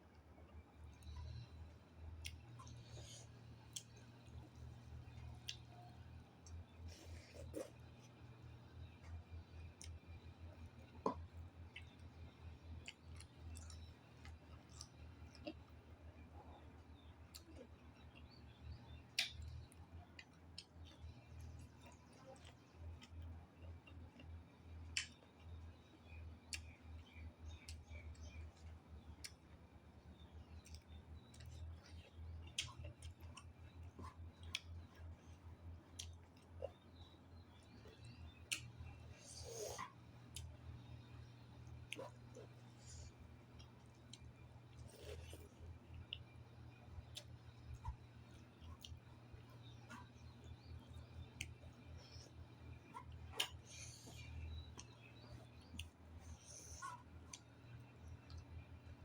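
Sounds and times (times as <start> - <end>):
faint clicks of eating: 0.0 - 59.0
person chewing food: 0.5 - 29.6, 30.2 - 59.0.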